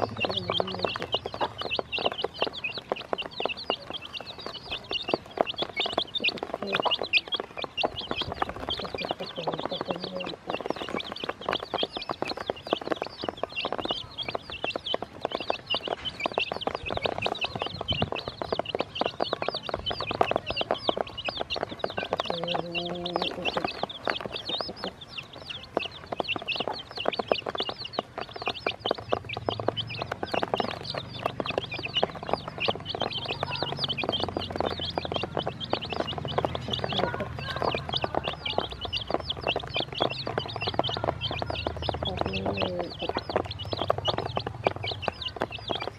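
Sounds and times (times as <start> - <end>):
beaks tapping plastic basin: 0.0 - 45.9
chicks peeping: 0.0 - 45.9.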